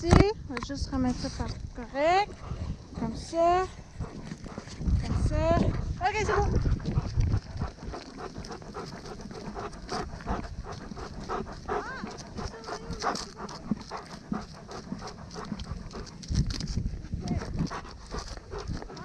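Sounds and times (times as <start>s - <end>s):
dog panting rapidly: 2.0s - 19.0s.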